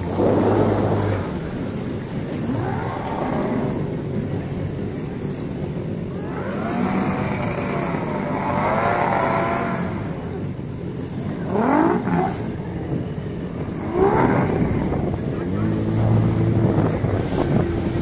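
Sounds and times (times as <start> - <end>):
jet ski engines revving: 0.0 - 18.0
wind and water: 0.0 - 18.0.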